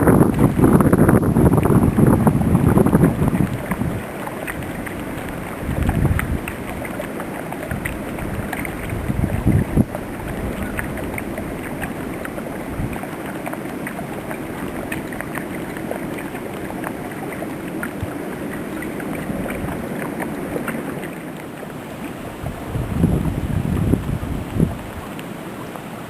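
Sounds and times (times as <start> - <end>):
wind buffeting microphone: 0.0 - 21.2, 22.2 - 25.1.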